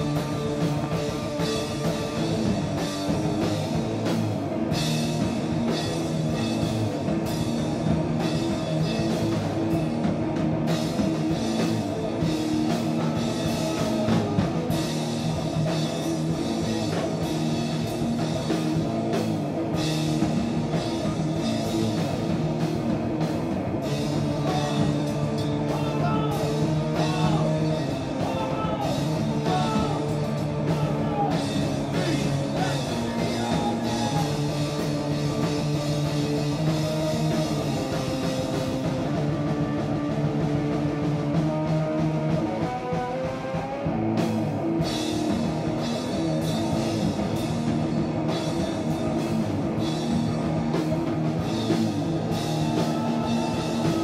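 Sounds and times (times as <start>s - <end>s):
drums: 0.0s - 54.0s
electric guitar chords: 0.0s - 54.0s.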